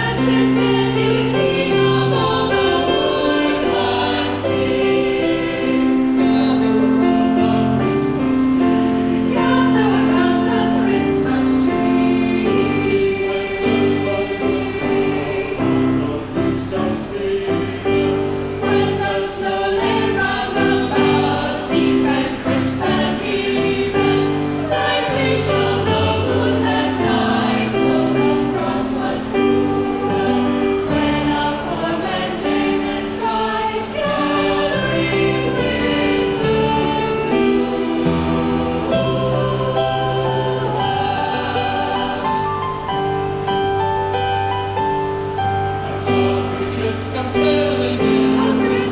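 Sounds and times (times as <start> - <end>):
choir singing held chords: 0.0 - 48.9.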